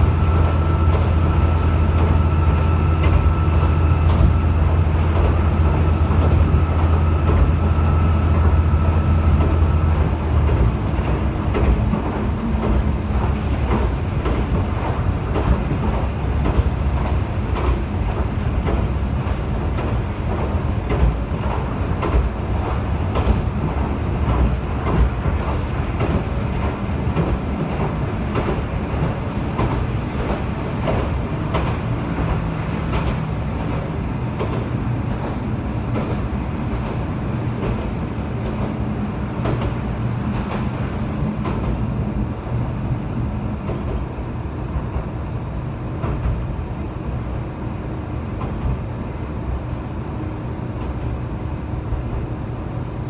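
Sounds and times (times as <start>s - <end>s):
diesel railcar engine rumble: 0.0s - 53.0s.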